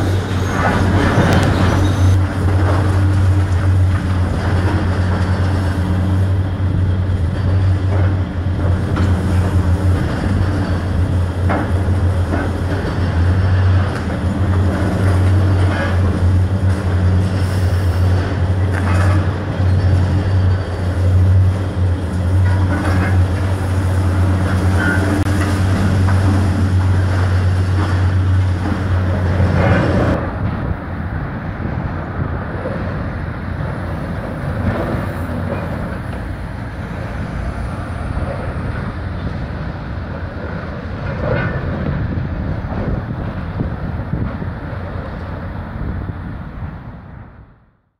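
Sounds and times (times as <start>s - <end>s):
distant machine noise: 0.0s - 45.6s
excavator engine humming: 0.0s - 47.4s.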